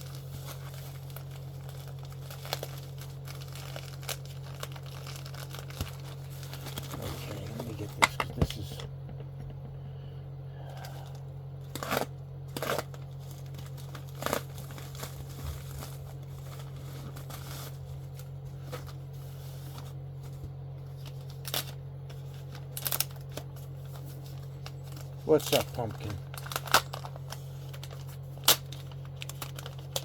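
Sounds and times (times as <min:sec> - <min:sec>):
packaging crinkling and tearing: 0:00.0 - 0:08.1, 0:10.8 - 0:30.0
low electrical hum: 0:00.0 - 0:30.0.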